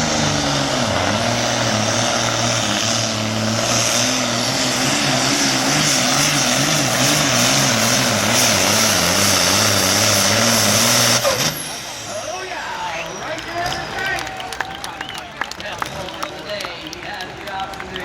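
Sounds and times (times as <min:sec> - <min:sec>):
tractor diesel engine at full power: 0:00.0 - 0:16.2.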